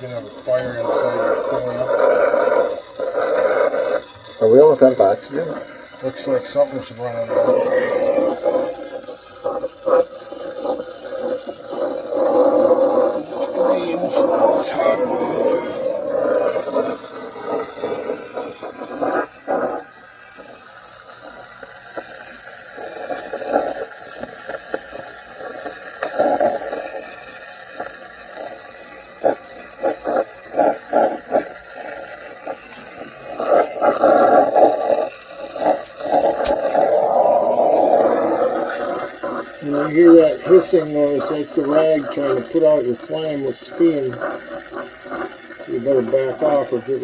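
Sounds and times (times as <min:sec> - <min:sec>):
torch flame hissing: 0:00.0 - 0:47.0
wet rag crackling and sizzling: 0:00.0 - 0:47.0.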